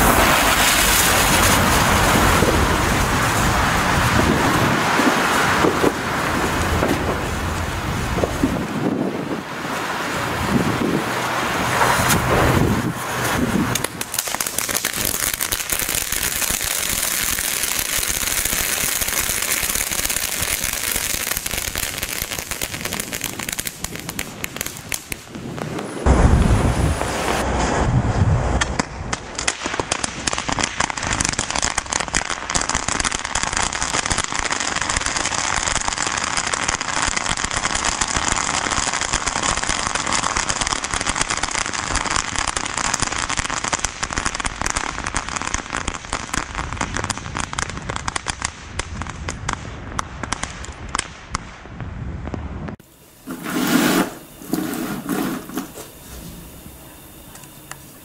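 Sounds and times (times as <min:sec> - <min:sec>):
firework crackling pops: 0:00.0 - 0:58.0.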